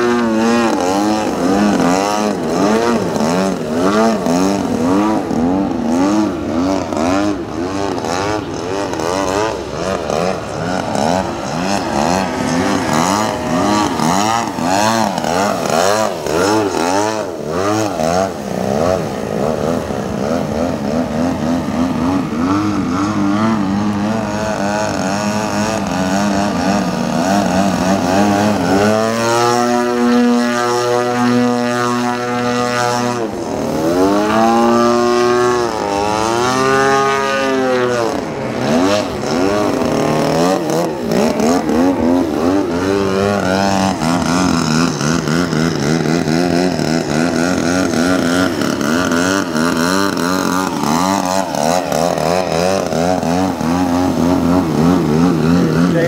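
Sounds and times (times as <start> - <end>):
model airplane engine revving: 0.0 - 56.0.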